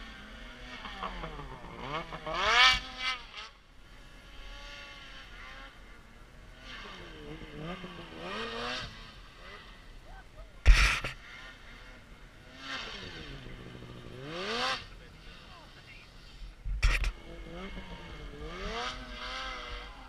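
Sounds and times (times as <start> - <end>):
snowmobile engines revving: 0.0 - 20.0.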